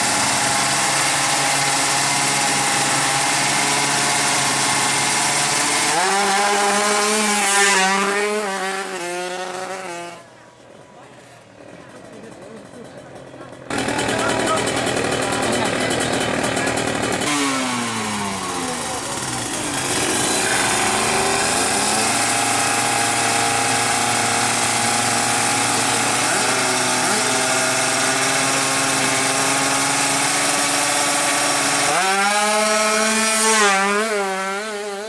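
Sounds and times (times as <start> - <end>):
two-stroke engine revving: 0.0 - 10.3, 11.6 - 35.0.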